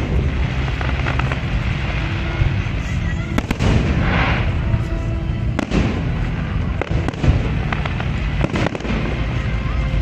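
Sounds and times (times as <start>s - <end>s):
continuous low rumble: 0.0s - 10.0s
fireworks bangs and pops: 0.0s - 10.0s
fireworks crackling hiss: 0.0s - 10.0s.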